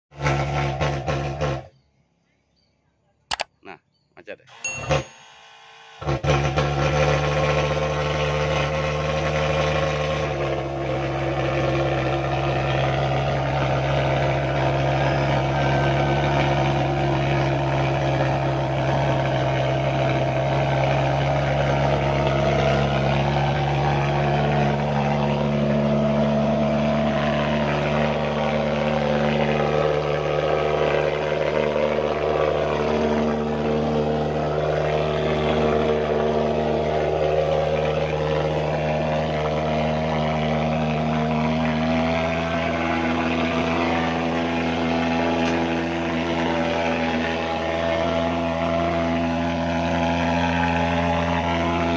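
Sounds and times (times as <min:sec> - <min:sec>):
fogging machine engine drone: 0:04.4 - 0:51.9.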